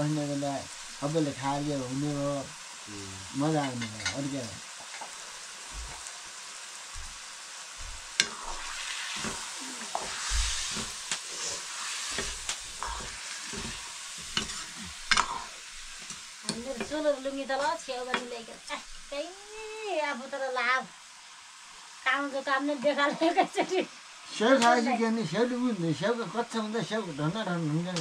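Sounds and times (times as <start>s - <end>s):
chicken sizzling in a wok: 0.0s - 28.0s.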